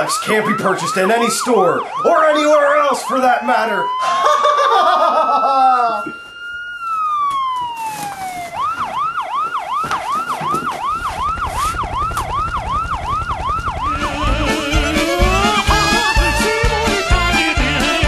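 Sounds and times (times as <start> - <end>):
electronic siren wailing and yelping: 0.0 - 18.0.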